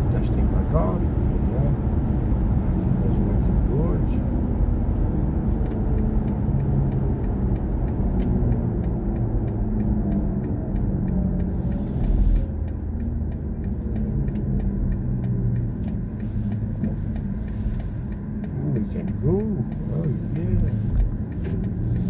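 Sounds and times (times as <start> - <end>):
road and tyre rumble in car: 0.0 - 22.0.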